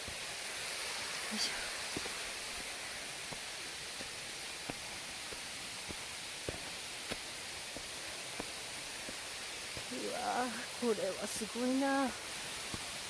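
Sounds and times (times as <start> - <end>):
steady hiss: 0.0 - 13.0
footsteps on stone steps: 1.3 - 11.5, 12.5 - 13.0.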